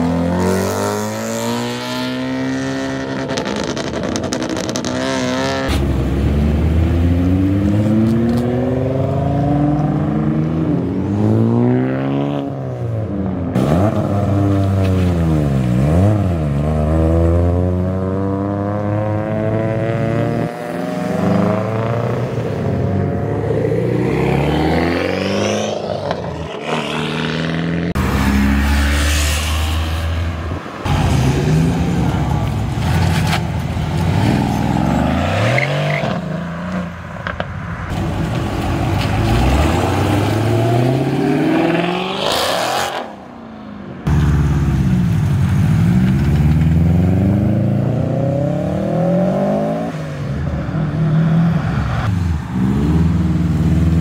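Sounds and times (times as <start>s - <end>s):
car engines accelerating hard: 0.0s - 43.3s, 44.0s - 54.0s.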